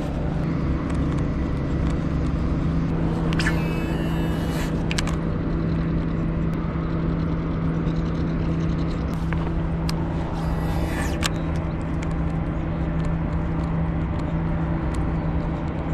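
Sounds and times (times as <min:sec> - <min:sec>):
distant engine humming: 0:00.0 - 0:15.8.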